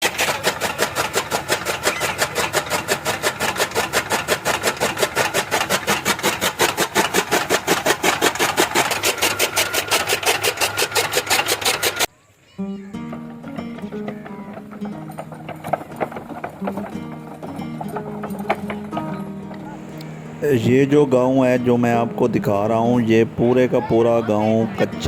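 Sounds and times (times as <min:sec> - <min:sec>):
small machine chugging: 0:00.0 - 0:12.1, 0:13.1 - 0:25.0.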